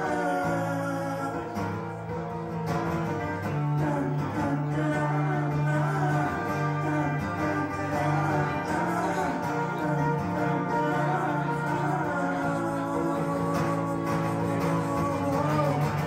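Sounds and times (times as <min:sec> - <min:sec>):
man singing into microphone: 0:00.0 - 0:02.2, 0:03.3 - 0:16.0
acoustic guitar: 0:00.0 - 0:16.0.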